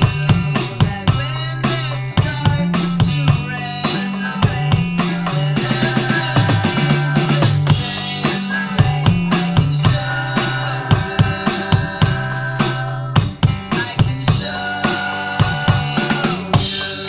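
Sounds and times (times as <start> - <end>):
backing song with bass and chords: 0.0 - 17.0
electronic drum kit beat: 0.0 - 17.0.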